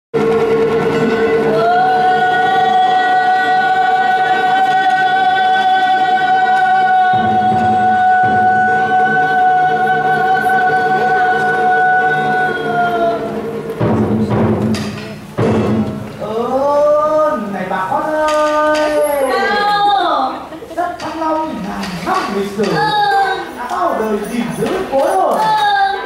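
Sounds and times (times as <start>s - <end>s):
traditional ensemble music: 0.2s - 26.0s.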